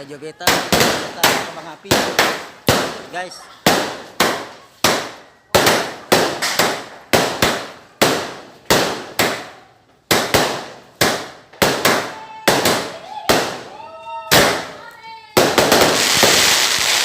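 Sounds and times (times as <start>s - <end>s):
fireworks bangs with echo: 0.4s - 17.0s.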